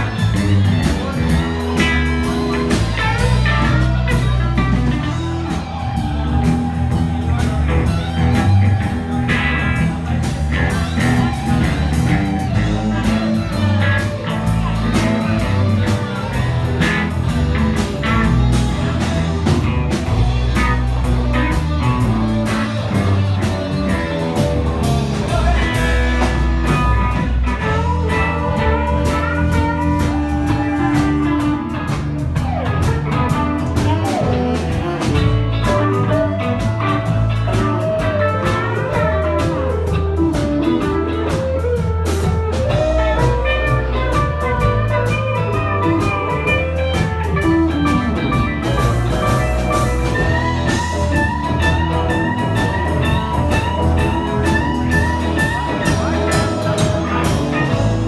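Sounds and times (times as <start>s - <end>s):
lead guitar bending notes: 0.0s - 58.0s
live blues band: 0.0s - 58.0s.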